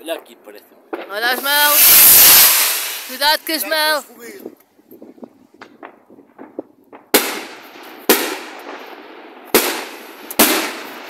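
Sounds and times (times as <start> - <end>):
firework bangs with echo: 0.0 - 4.0, 5.6 - 11.0.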